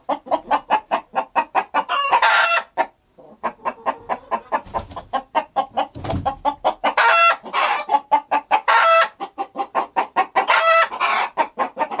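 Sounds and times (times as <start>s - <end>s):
chickens clucking: 0.0s - 12.0s
chicken squawking calls: 0.1s - 12.0s.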